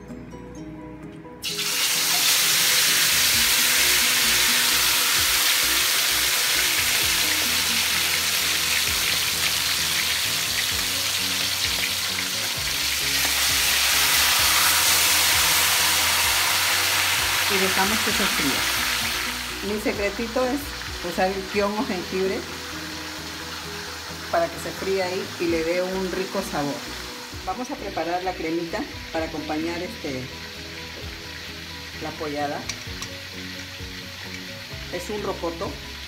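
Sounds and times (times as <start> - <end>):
soft background music: 0.0 - 36.0
loud sizzle of deep frying: 1.4 - 36.0.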